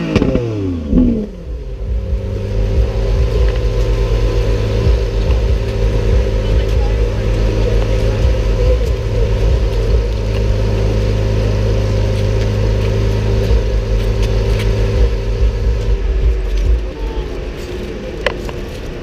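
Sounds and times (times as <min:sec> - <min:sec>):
car engine running steadily: 0:00.0 - 0:19.0.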